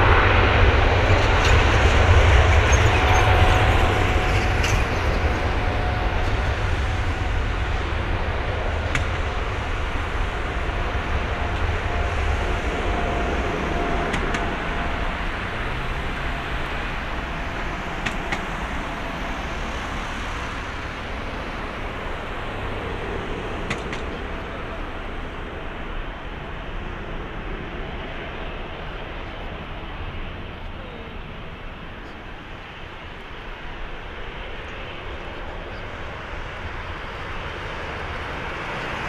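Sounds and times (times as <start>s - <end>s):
jet airliner taking off: 0.0s - 39.0s.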